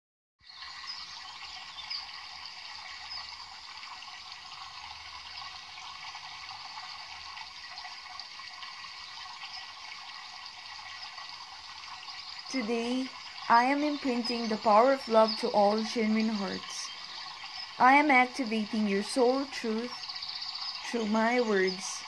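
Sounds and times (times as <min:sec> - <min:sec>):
rushing water: 0:00.4 - 0:22.0.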